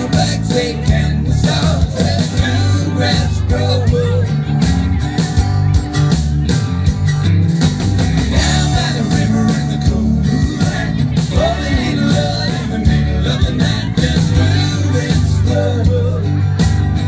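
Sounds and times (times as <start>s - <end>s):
live country rock band: 0.0s - 17.0s.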